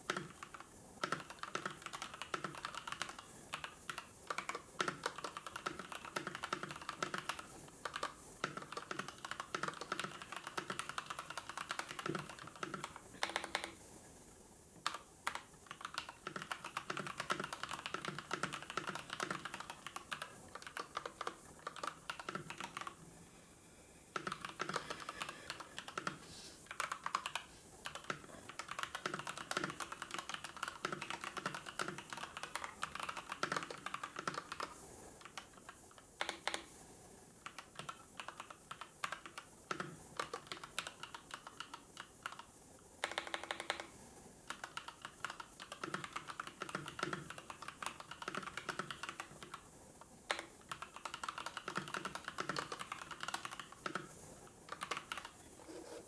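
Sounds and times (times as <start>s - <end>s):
typing on computer keyboard: 0.0s - 13.9s, 14.8s - 23.0s, 24.1s - 36.8s, 37.4s - 55.4s.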